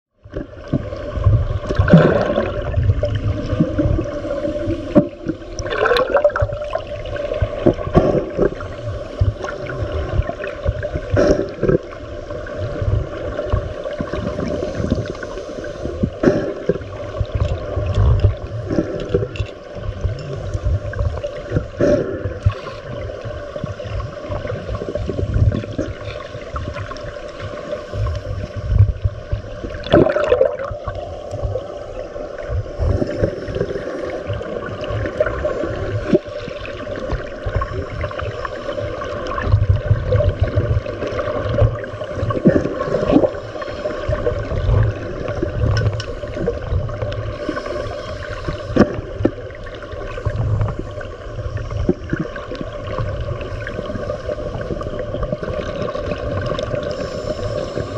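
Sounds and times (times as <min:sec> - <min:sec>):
regulator bubbles gurgling: 0:00.1 - 0:57.9
muffled underwater noise: 0:00.2 - 0:57.9.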